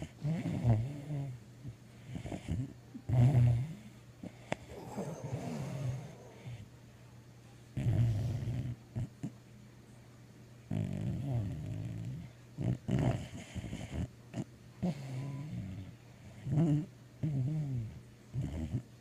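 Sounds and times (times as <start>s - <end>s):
sleeping dog growling and snoring: 0.0s - 6.7s, 7.7s - 9.4s, 10.7s - 19.0s.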